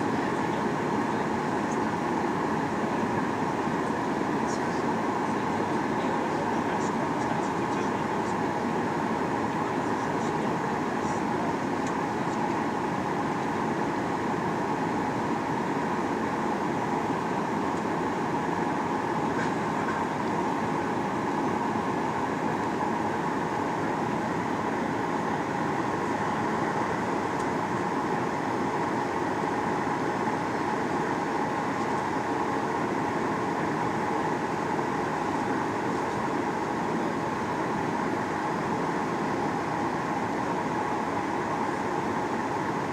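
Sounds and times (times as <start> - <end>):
airflow hiss in aircraft cabin: 0.0 - 42.9
jet engines humming: 0.0 - 42.9.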